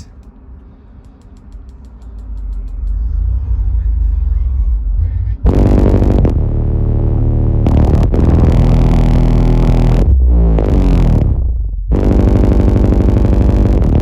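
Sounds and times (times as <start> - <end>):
subwoofer playing deep bass: 2.2 - 14.0.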